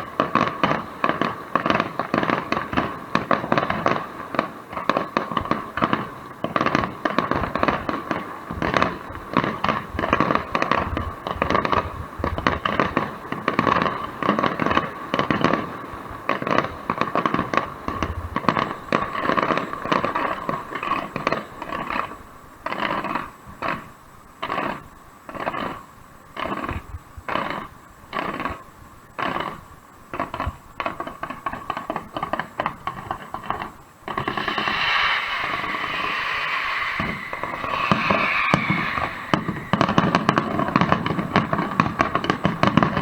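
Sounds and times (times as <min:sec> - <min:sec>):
fireworks bangs and crackles: 0:00.0 - 0:25.8, 0:29.2 - 0:43.0.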